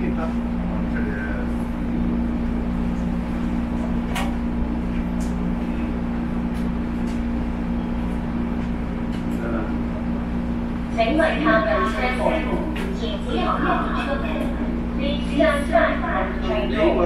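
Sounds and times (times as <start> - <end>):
electric train carriage hum: 0.0 - 17.0.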